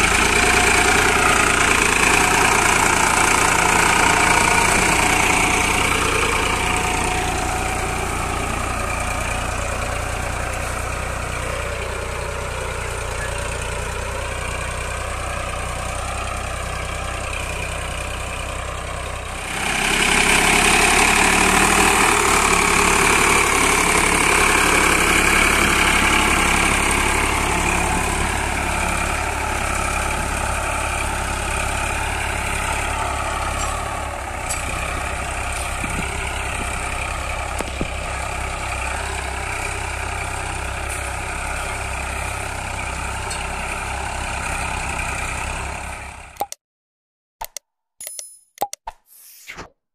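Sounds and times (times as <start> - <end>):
tractor diesel engine running: 0.0 - 46.4.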